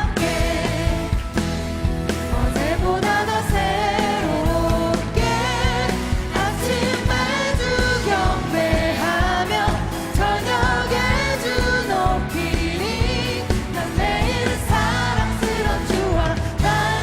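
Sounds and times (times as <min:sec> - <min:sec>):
singing over worship band: 0:00.0 - 0:17.0.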